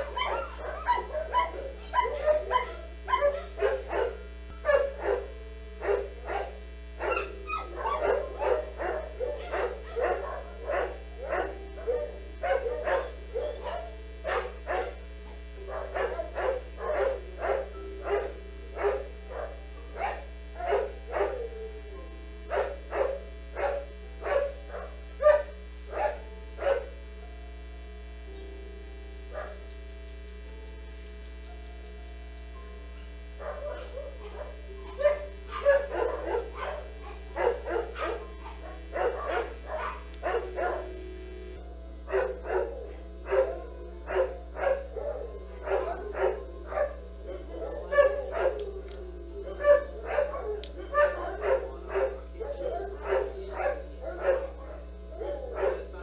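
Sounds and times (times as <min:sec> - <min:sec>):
dog barking: 0:00.0 - 0:21.5, 0:22.5 - 0:27.0, 0:29.3 - 0:29.7, 0:33.4 - 0:41.0, 0:42.0 - 0:48.8, 0:49.4 - 0:56.0
low electrical hum: 0:00.0 - 0:56.0.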